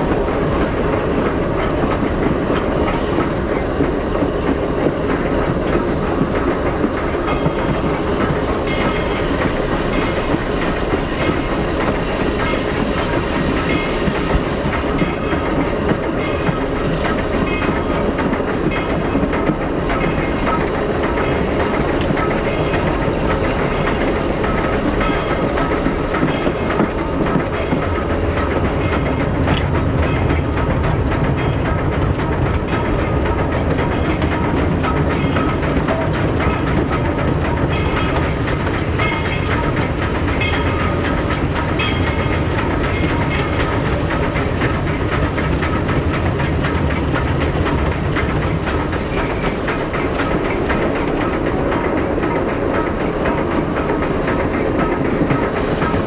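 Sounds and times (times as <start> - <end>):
train wheels clacking on rails: 0.0 - 56.0.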